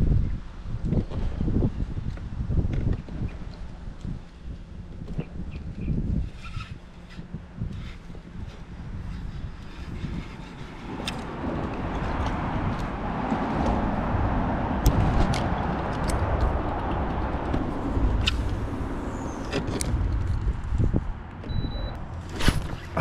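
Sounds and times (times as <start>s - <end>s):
road traffic tyre noise and rumble: 0.0s - 23.0s.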